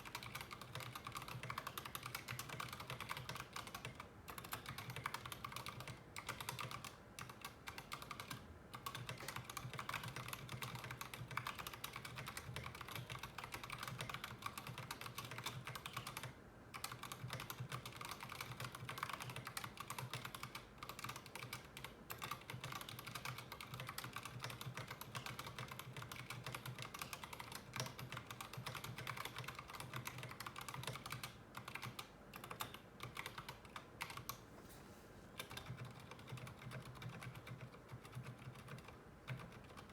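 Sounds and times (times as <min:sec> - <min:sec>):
typing on mechanical keyboard: 0:00.0 - 0:34.4, 0:35.4 - 0:39.9.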